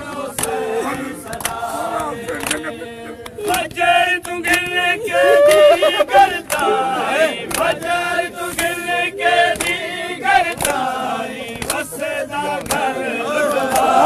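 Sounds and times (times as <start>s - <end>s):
men chanting together: 0.0s - 14.0s
sharp rhythmic slaps: 0.0s - 14.0s.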